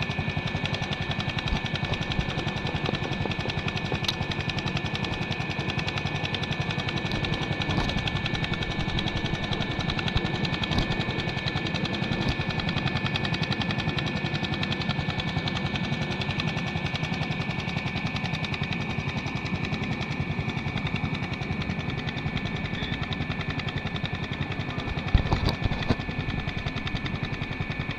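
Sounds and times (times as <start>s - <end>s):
atv engine running: 0.0s - 17.1s, 18.2s - 27.9s.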